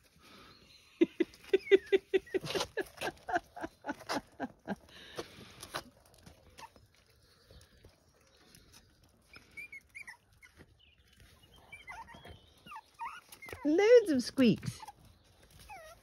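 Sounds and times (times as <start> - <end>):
leaves rustling: 0.0 - 16.0
puppies squeaking: 1.0 - 4.2, 6.2 - 16.0.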